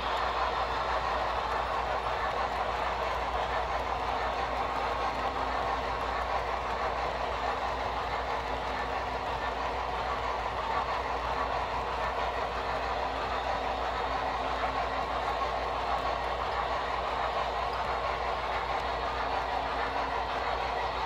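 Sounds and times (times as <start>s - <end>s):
model train wheels whirring on rails: 0.0s - 21.0s.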